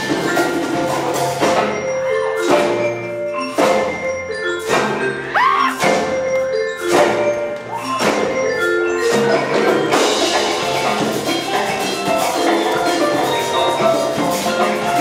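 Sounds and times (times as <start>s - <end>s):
mallet percussion music: 0.0s - 15.0s.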